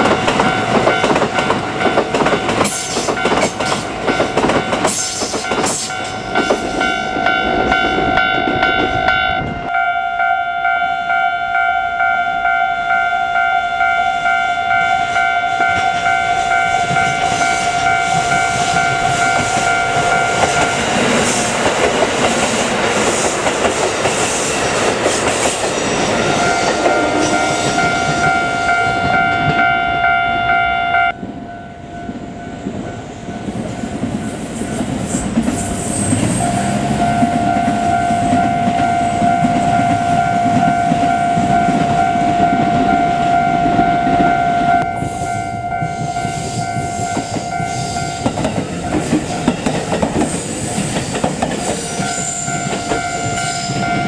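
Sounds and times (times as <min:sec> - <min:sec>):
train wheels rumbling past: 0:00.0 - 0:10.0, 0:14.0 - 0:30.0, 0:31.1 - 0:54.0
level crossing warning bell: 0:00.0 - 0:21.9, 0:26.0 - 0:50.0, 0:51.0 - 0:54.0.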